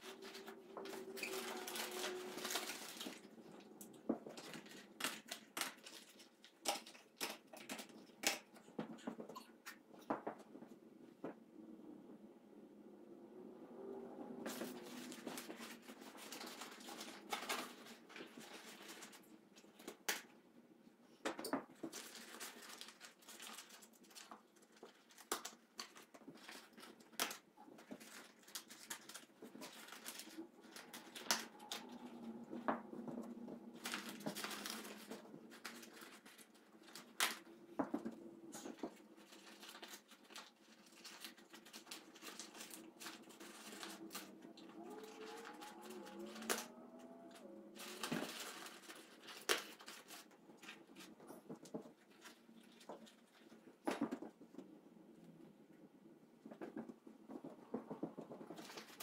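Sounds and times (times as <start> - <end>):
crumpled paper rustling: 0.0 - 8.5, 14.4 - 20.2, 21.6 - 54.2, 57.3 - 59.0.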